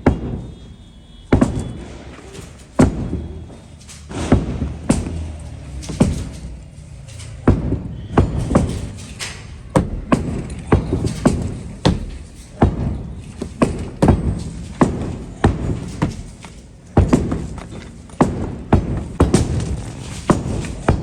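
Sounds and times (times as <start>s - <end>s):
heavy hammer blows ringing: 0.0s - 21.0s.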